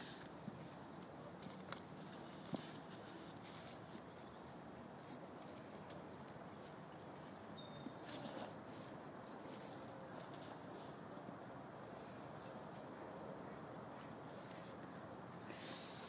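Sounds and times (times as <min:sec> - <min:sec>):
faint background noise: 0:00.0 - 0:16.0.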